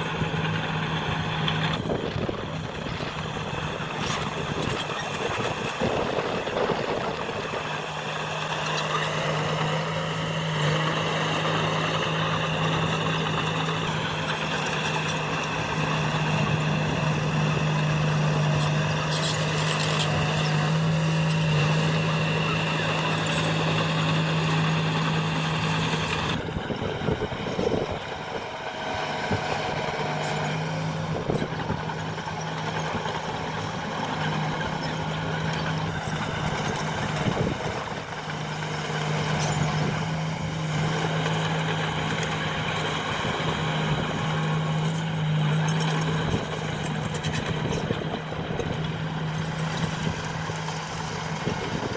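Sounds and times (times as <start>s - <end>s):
heavy diesel engine under load: 0.0s - 51.9s.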